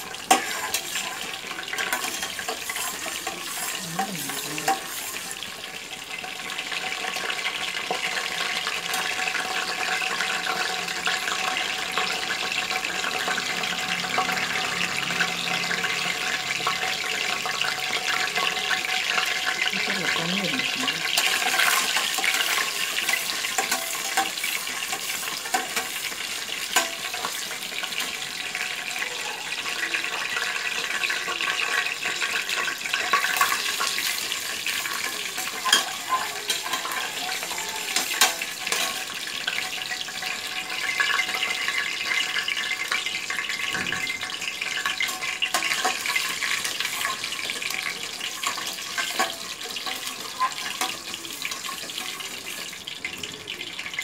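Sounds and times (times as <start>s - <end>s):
spices sizzling in oil: 0.0s - 54.0s.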